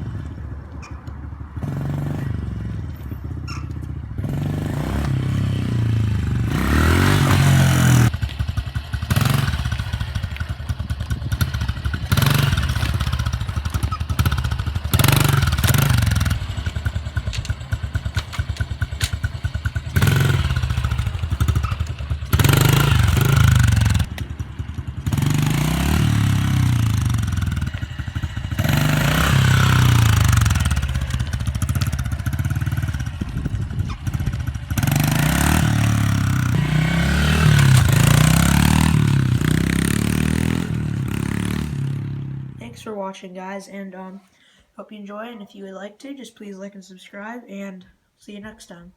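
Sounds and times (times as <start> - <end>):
dirt bike engine revving: 1.6 - 42.8.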